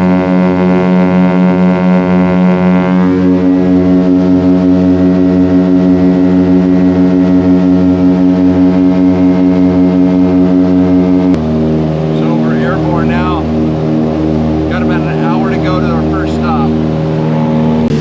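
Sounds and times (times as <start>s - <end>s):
propeller aircraft engine droning: 0.0s - 18.0s.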